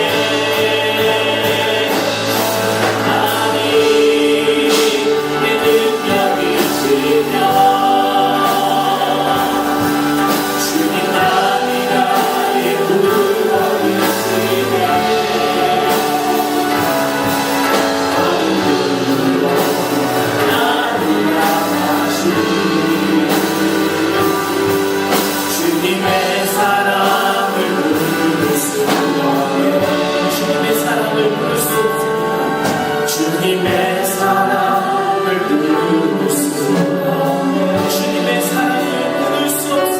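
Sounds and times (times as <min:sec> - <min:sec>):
choir singing a hymn: 0:00.0 - 0:39.9
instrumental accompaniment: 0:00.0 - 0:39.9.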